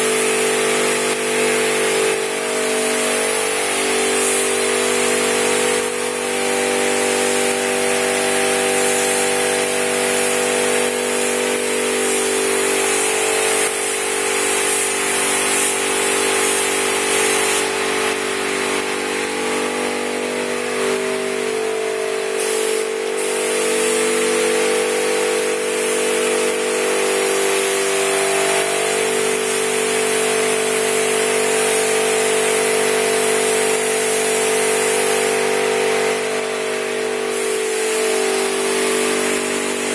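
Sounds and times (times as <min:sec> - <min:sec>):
spray gun hissing: 0:00.2 - 0:19.0, 0:22.3 - 0:39.9.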